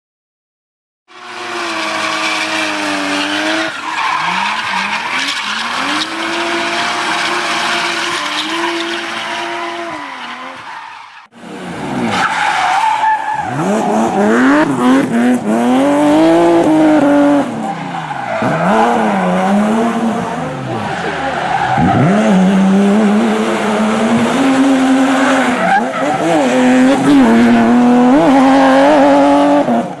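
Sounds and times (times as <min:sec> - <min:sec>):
tyres squealing and skidding: 0:01.1 - 0:11.3, 0:12.0 - 0:15.2, 0:16.5 - 0:29.3
car engine revving: 0:01.1 - 0:12.6, 0:13.3 - 0:30.0.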